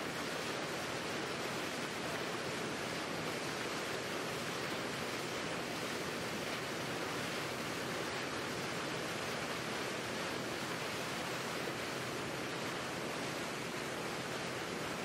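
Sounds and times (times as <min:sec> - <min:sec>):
water rushing past boat: 0:00.0 - 0:15.0.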